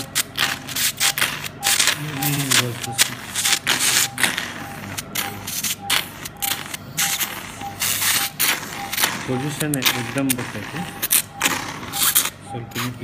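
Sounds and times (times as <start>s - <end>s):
patient monitor beeping: 0.0s - 13.0s
surgical suction hissing: 0.1s - 13.0s.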